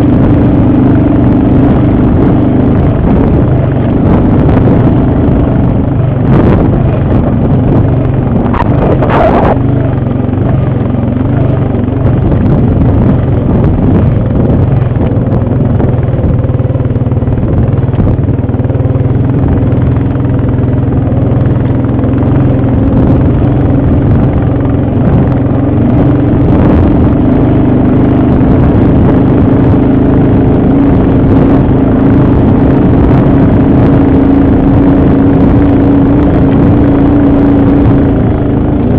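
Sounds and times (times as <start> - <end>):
atv engine rumbling: 0.0 - 38.9.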